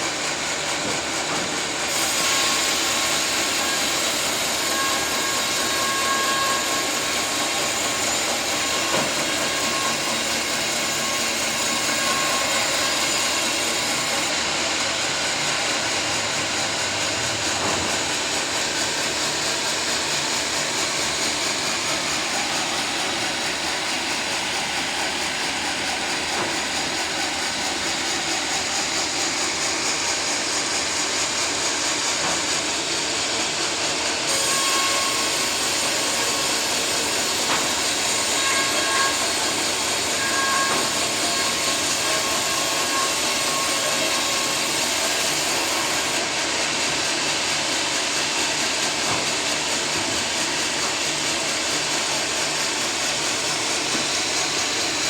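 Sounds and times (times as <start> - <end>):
sawmill blade sawing log: 0.0 - 55.0.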